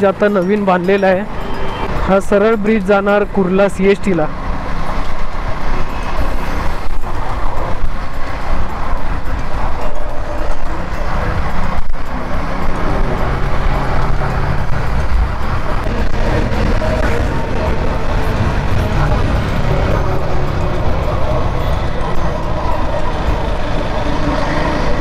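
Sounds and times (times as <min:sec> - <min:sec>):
wind rush on microphone: 0:04.0 - 0:25.0
motorcycle engine cruising: 0:04.3 - 0:25.0.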